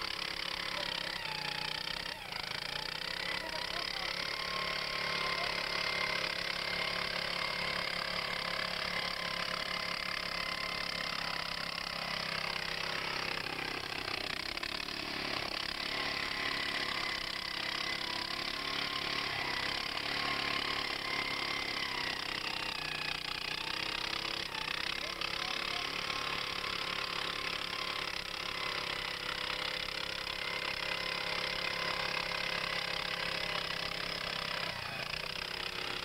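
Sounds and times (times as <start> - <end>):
small gasoline engine running: 0.0 - 36.0.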